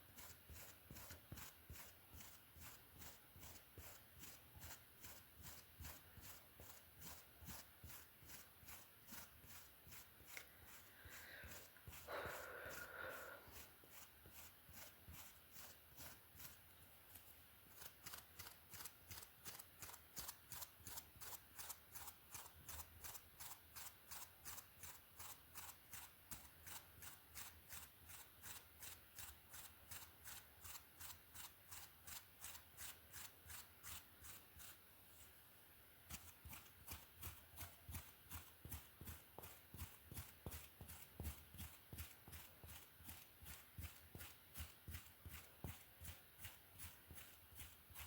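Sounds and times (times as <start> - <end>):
hairbrush strokes through hair: 0.0 - 48.0.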